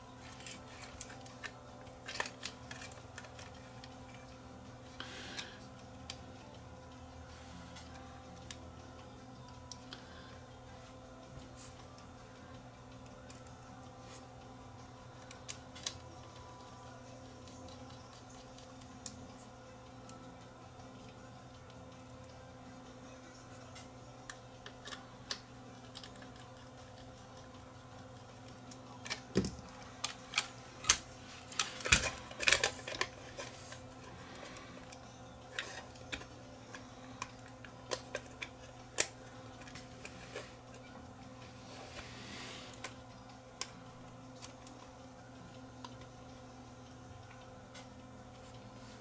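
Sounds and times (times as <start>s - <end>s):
small parts and tools clicking: 0.0s - 10.0s, 10.6s - 42.0s, 42.7s - 49.0s
faint mains hum: 0.0s - 49.0s.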